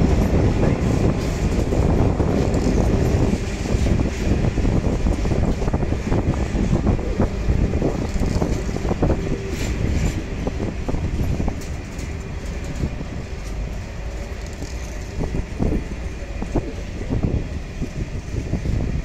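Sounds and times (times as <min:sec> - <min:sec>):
train rumbling past: 0:00.0 - 0:19.0
wheels clattering on track: 0:00.0 - 0:19.0.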